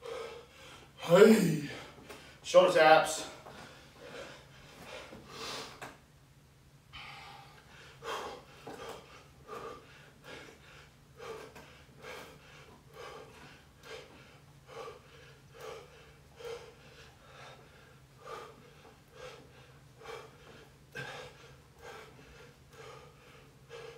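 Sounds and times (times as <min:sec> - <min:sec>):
man breathing hard: 0:00.0 - 0:02.4, 0:03.4 - 0:06.0, 0:06.9 - 0:23.9.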